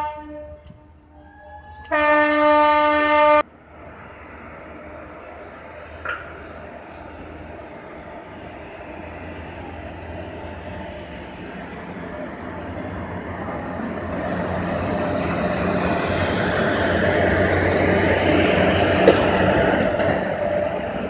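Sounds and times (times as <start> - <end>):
electric locomotive hum: 0.0 - 21.0
train wheels rolling on rail: 0.0 - 21.0.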